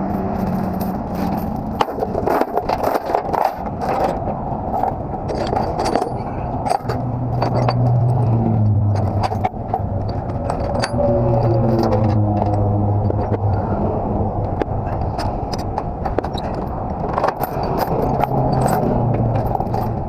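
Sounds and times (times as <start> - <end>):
metal chains clanking: 0.0 - 13.7, 15.0 - 20.0.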